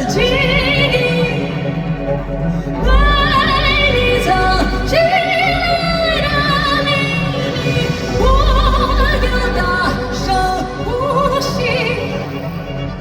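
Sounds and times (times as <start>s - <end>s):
operatic wordless singing: 0.0s - 13.0s.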